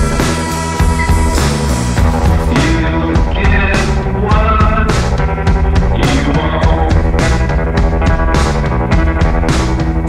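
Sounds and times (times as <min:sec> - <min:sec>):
rock song with guitar bass drums: 0:00.0 - 0:10.0.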